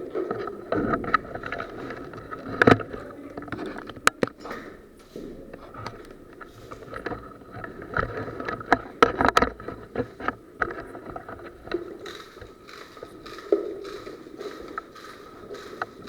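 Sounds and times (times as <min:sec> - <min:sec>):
clicks and knocks: 0:00.2 - 0:16.0.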